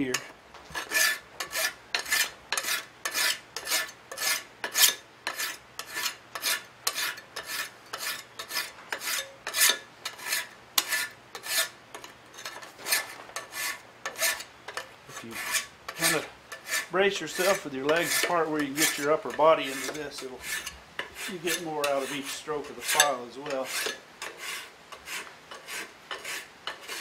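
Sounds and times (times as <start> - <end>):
hand file rasping on steel: 0.1 - 27.0.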